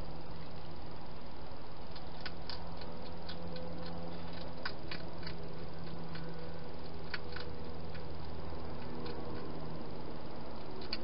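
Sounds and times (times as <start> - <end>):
steady low hum: 0.0 - 11.0
hedgehog crunching food: 1.8 - 11.0.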